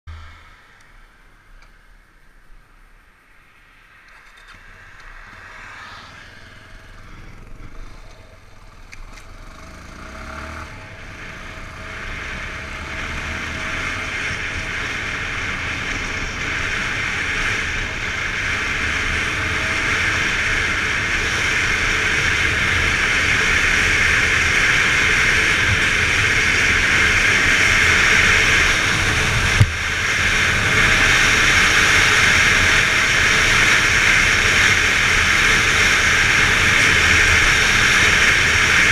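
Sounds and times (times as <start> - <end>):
rush of wind noise: 0.1 - 9.2, 10.2 - 38.9
motorcycle engine running: 3.2 - 38.9.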